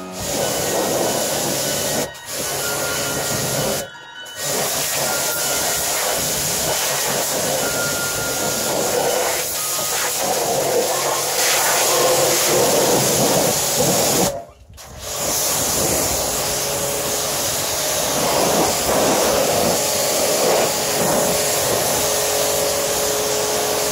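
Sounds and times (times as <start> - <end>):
pressure washer hum: 0.0 - 23.9
pressure washer water spray: 0.0 - 23.9.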